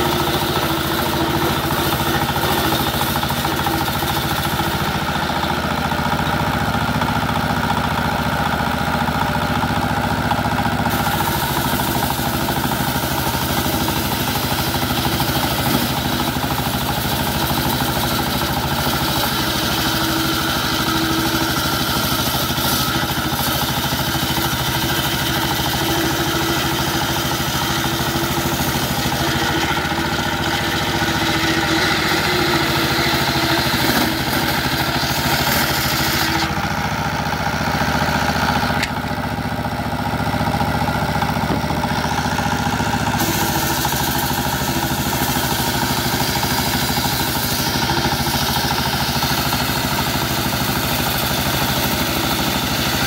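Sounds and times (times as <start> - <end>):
circular saw cutting wood: 0.0 - 39.0, 40.4 - 53.0
diesel engine running: 0.0 - 53.0.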